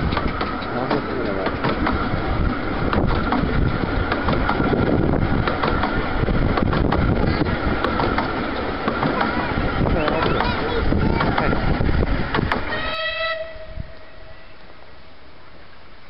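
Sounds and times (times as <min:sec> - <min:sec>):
train coaches rumbling on track: 0:00.0 - 0:16.0.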